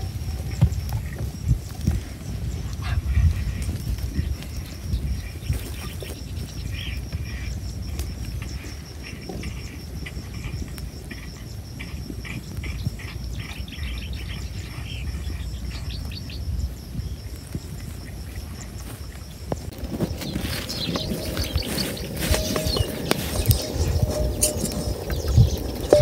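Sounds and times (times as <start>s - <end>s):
insect trilling: 0.0s - 26.0s
wind rumble on microphone: 0.0s - 26.0s
bird chirps: 2.2s - 17.2s, 19.6s - 26.0s.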